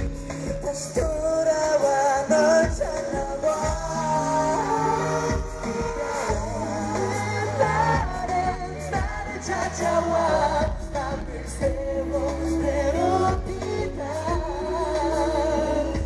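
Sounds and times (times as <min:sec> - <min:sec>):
backing track with bass: 0:00.0 - 0:16.0
man singing into microphone: 0:00.0 - 0:16.0.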